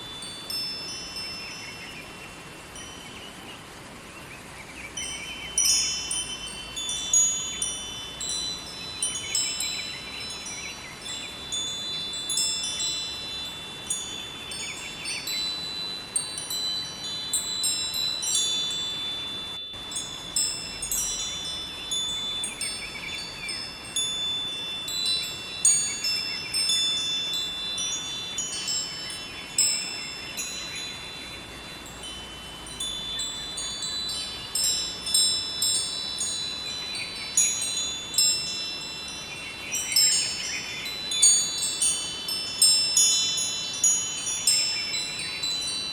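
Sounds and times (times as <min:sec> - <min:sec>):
metal wind chimes ringing: 0:00.0 - 0:04.0, 0:04.9 - 0:45.9
river water flowing: 0:00.0 - 0:45.9.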